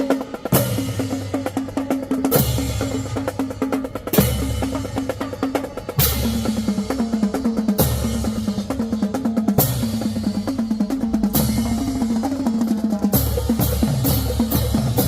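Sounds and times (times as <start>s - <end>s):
snare and bass drums playing: 0.0s - 15.0s.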